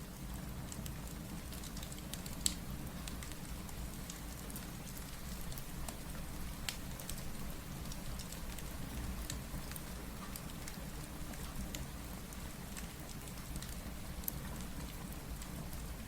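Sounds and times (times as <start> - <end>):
steady rain: 0.0 - 16.0
wood fire crackling and popping: 0.1 - 16.0.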